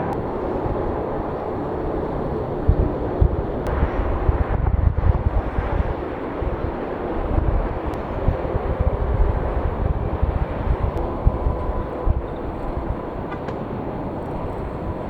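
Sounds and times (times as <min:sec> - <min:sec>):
jet engine rush: 0:00.0 - 0:15.0.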